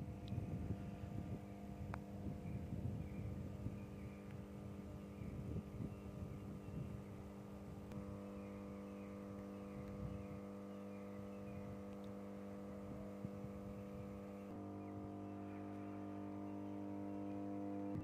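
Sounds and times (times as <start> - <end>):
power transformer humming: 0.0 - 18.0.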